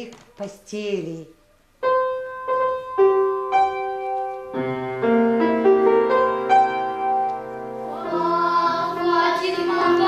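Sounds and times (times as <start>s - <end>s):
piano chords: 1.8s - 10.0s.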